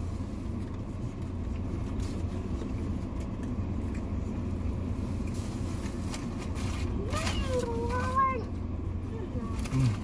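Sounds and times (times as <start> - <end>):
car engine idling: 0.0 - 10.0
faint rustles and clicks: 0.0 - 10.0.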